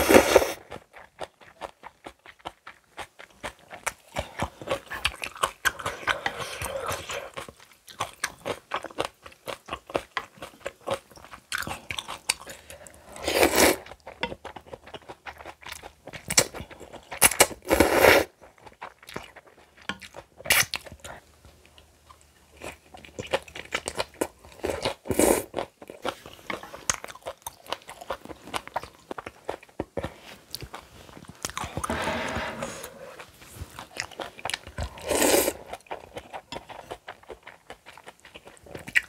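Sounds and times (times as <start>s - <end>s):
chewing and crunching food: 0.0s - 32.0s, 33.1s - 39.0s.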